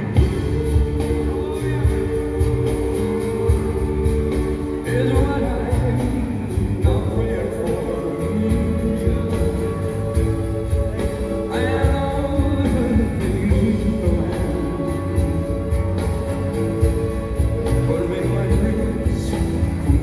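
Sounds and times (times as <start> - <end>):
acoustic guitar: 0.0 - 20.0
live music through pa: 0.0 - 20.0
man singing: 0.0 - 20.0.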